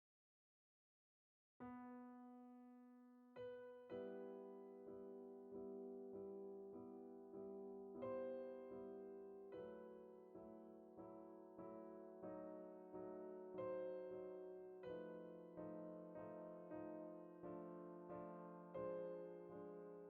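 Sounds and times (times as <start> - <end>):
soft slow piano music: 1.6 - 20.0.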